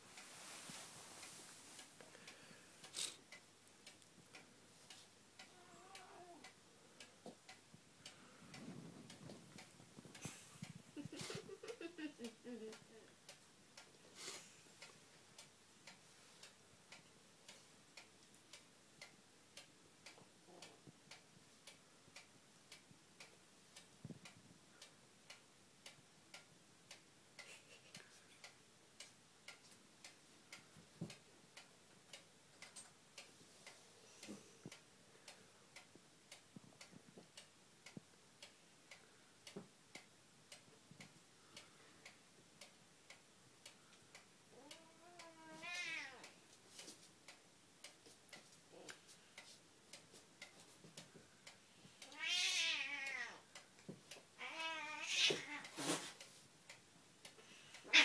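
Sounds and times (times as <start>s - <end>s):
clock ticking: 1.2s - 58.0s.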